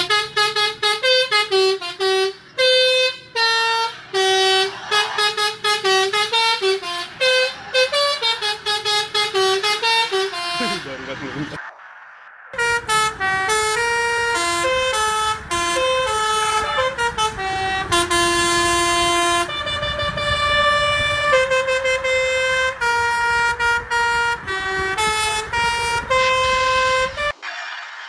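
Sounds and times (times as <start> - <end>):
multi-tone musical air horn: 0.0 - 11.1, 12.6 - 27.4.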